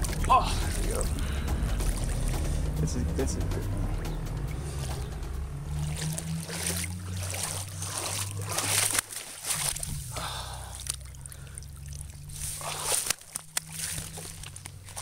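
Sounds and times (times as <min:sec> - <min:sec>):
steady low drone: 0:00.0 - 0:15.0
water splashing and sloshing: 0:00.0 - 0:15.0.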